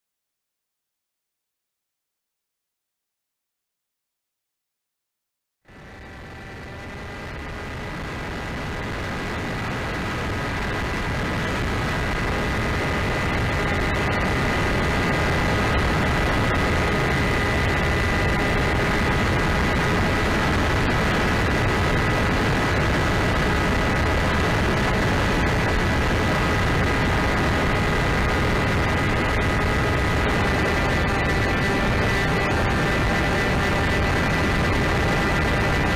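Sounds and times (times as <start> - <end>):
electric motor and propeller whine: 5.7 - 35.9.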